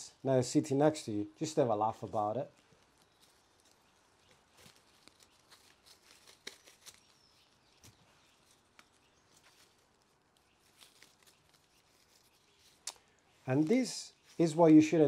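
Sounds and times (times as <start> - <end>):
ivy leaves rustling and crackling: 1.4 - 15.0.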